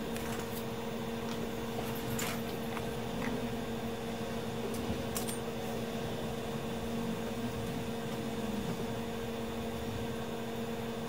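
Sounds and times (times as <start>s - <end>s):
electric fan hum: 0.0s - 11.0s.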